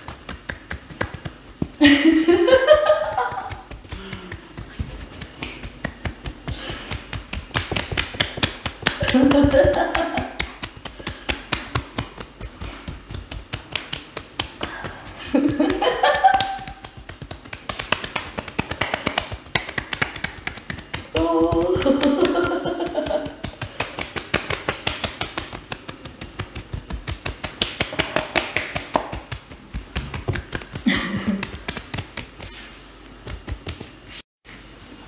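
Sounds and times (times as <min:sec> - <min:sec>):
hands slapping body: 0:00.0 - 0:01.8, 0:03.0 - 0:32.6, 0:33.2 - 0:34.0.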